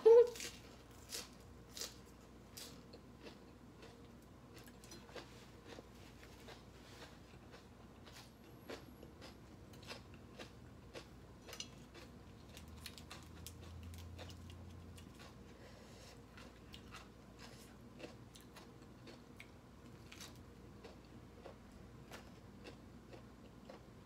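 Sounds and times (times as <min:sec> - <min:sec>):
crunchy chewing: 0:00.3 - 0:24.0.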